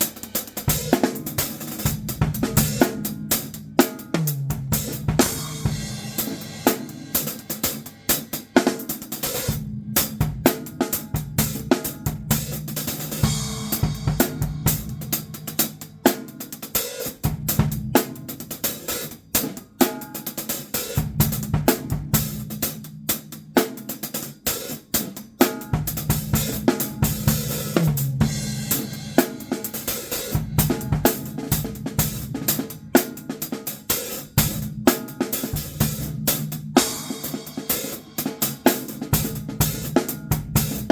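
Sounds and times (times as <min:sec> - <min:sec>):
drum kit solo: 0:00.0 - 0:40.9.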